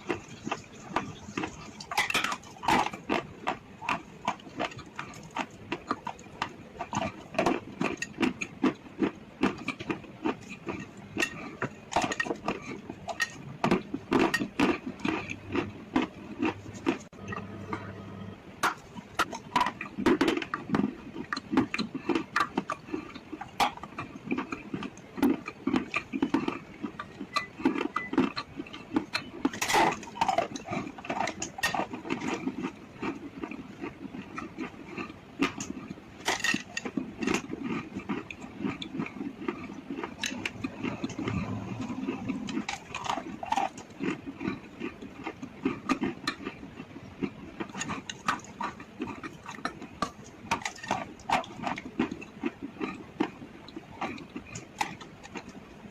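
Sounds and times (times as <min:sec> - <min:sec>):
wet chewing: 0:00.0 - 0:17.5, 0:18.6 - 0:55.9.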